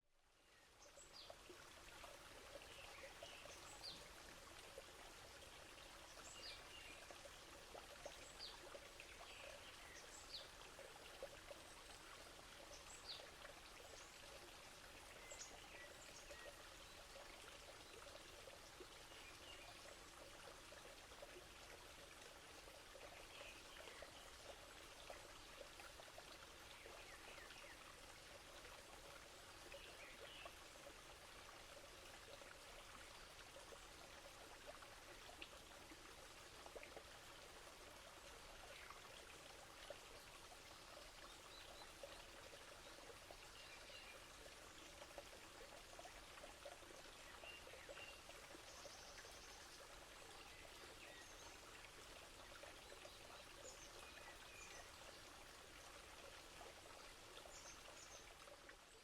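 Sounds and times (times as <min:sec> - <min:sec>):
flowing water: 0:00.1 - 0:59.0.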